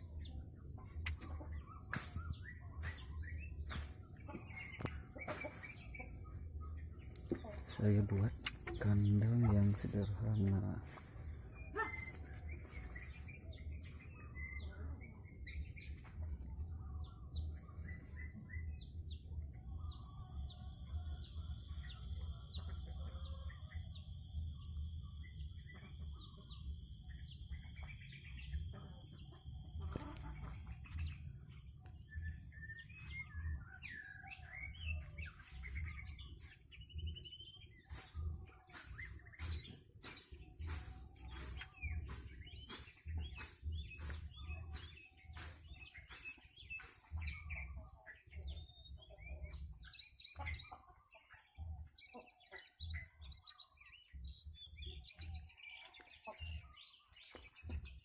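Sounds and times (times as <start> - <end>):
birds chirping: 0.0 - 58.0
high-pitched buzz: 0.0 - 58.0.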